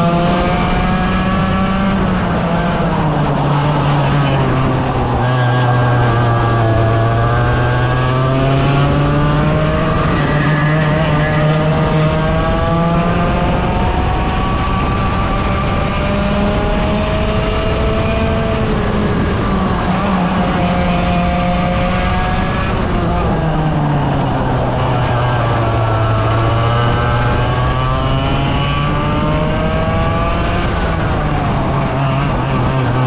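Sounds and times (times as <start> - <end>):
racing kart engines revving: 0.0 - 33.0.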